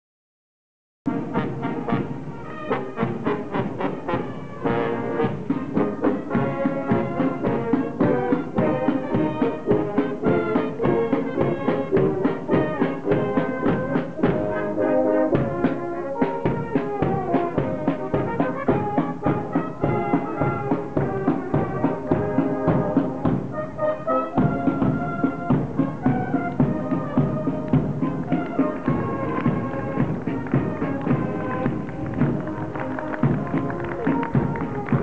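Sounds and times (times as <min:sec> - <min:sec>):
brass band playing a march: 0:01.1 - 0:35.0
drum beating time: 0:01.1 - 0:35.0.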